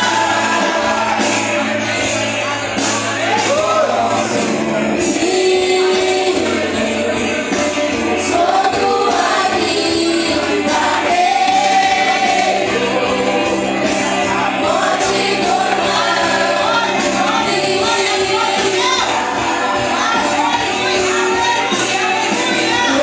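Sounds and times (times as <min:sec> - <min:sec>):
group singing gospel song: 0:00.0 - 0:23.0.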